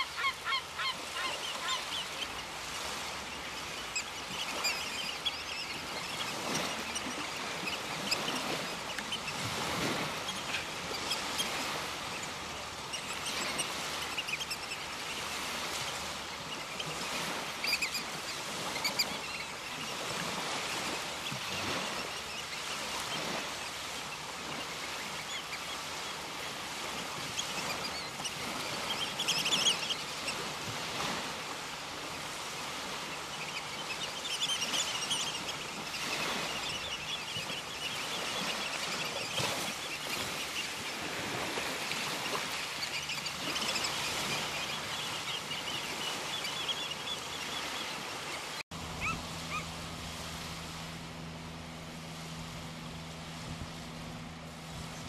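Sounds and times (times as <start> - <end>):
small birds chirping: 0.0 - 30.5, 33.1 - 49.6.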